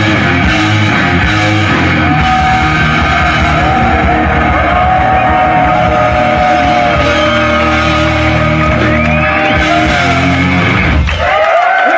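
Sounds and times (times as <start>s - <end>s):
pounding drums: 0.0s - 11.1s
distorted electric guitars: 0.0s - 11.2s
bass guitar: 0.0s - 11.3s.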